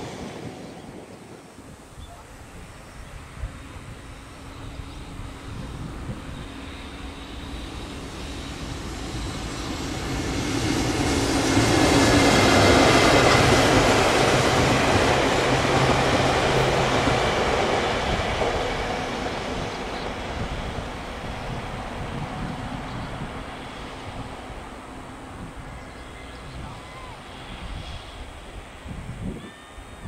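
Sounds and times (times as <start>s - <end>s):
train rolling past: 0.0s - 30.0s.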